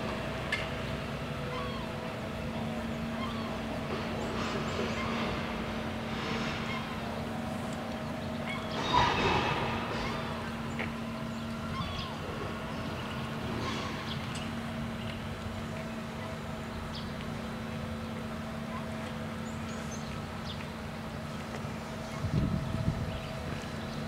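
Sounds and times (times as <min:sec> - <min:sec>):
outdoor background hum: 0:00.0 - 0:24.0.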